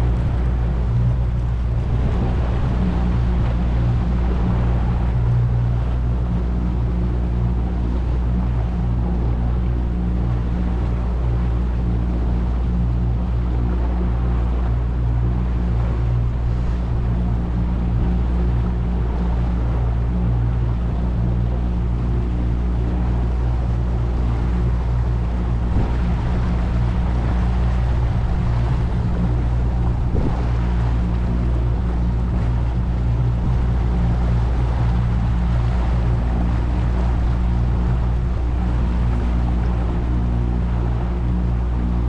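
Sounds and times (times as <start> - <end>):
boat engine running: 0.0 - 42.0
water noise: 0.0 - 42.0
wind noise: 0.0 - 42.0.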